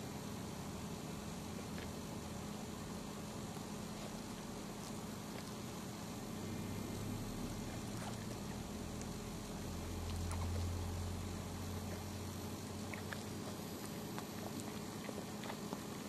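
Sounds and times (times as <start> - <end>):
low hum: 0.0 - 16.0
dog licking puppies: 0.3 - 16.0.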